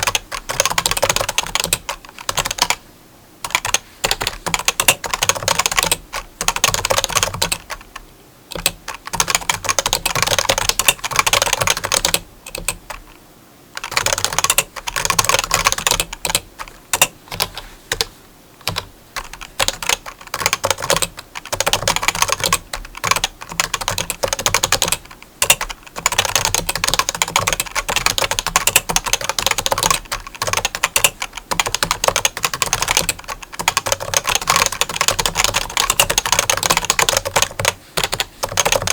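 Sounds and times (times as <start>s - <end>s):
rapid keyboard typing: 0.0s - 2.8s, 3.4s - 13.2s, 13.8s - 38.9s.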